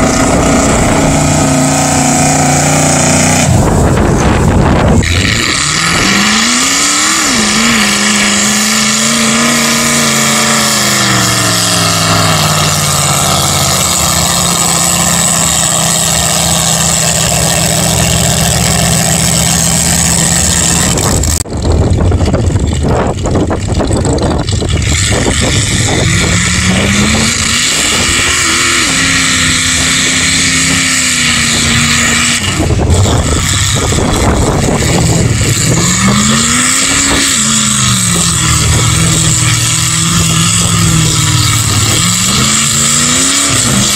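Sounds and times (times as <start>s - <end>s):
truck engines revving hard: 0.0s - 43.9s.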